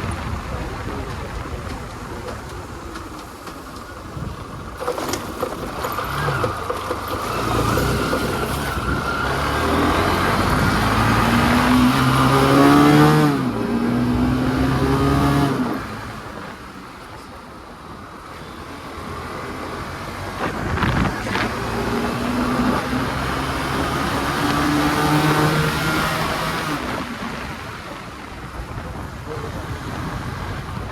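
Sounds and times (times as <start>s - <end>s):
motorcycle engine accelerating: 0.0s - 16.8s, 18.2s - 30.9s
rushing wind noise: 0.0s - 18.3s, 19.0s - 30.9s.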